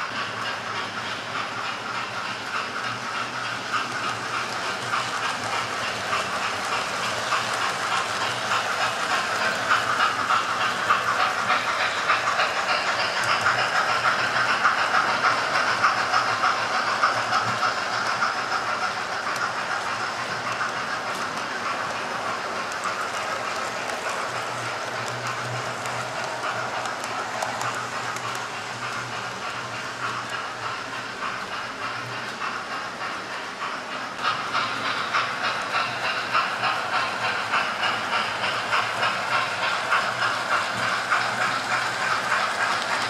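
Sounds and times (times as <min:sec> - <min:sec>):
wheels clicking over track: 0:00.0 - 0:43.0
whirr of model train motors: 0:00.0 - 0:43.0.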